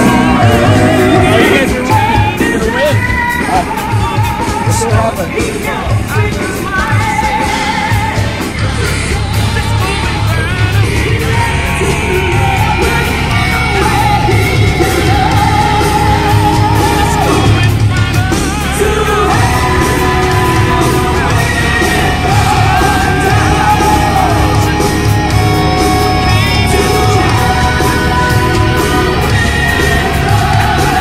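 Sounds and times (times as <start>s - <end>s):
singer holding wavering notes: 0.0s - 4.9s, 6.0s - 31.0s
loud rock music: 0.0s - 31.0s.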